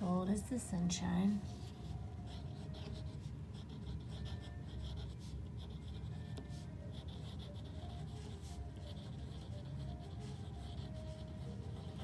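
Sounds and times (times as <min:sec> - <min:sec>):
low steady hum: 0:00.0 - 0:12.0
pen scratching on paper: 0:01.4 - 0:12.0.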